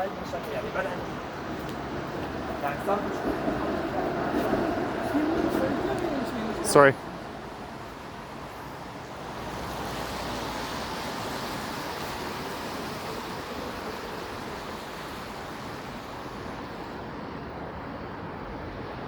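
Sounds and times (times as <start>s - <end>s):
traffic hiss on wet road: 0.0s - 19.0s.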